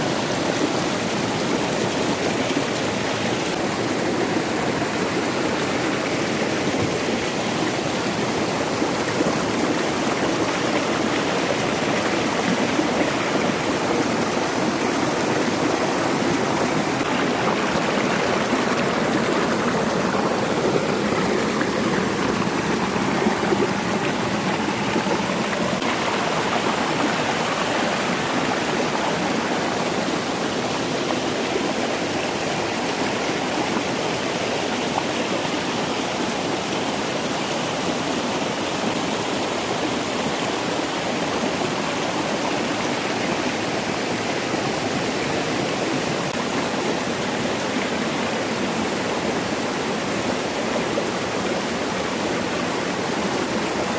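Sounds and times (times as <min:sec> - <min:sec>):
stream flowing into a pool: 0:00.0 - 0:53.9.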